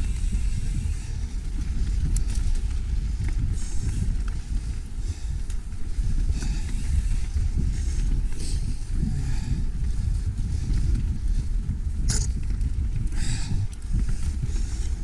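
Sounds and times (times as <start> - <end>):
bike rattles: 0.0 - 15.0
bike tyres over dirt: 0.0 - 15.0
wind on microphone: 0.0 - 15.0.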